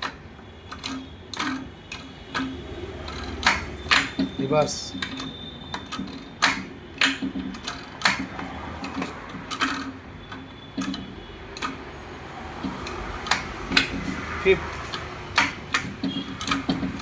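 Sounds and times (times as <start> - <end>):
gearbox shifting clicks and clunks: 0.0 - 17.0.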